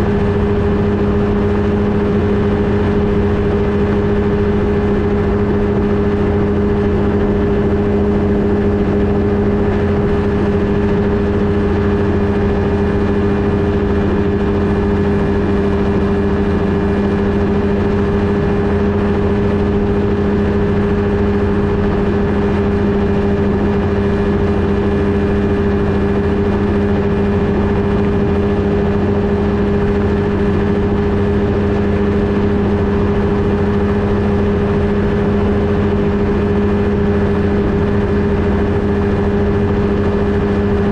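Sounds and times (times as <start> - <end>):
ultralight engine and propeller drone: 0.0 - 40.9.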